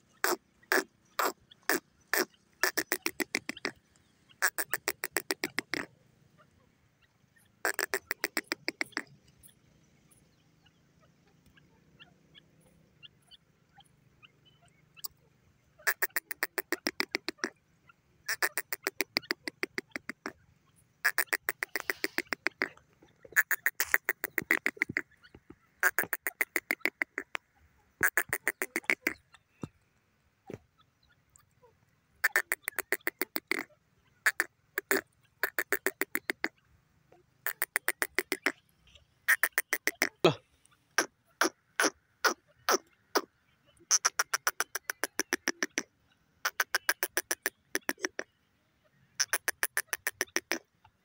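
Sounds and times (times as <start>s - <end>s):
francolin calling: 0.0s - 5.9s, 7.0s - 20.4s, 21.0s - 29.8s, 31.1s - 36.6s, 37.4s - 48.4s.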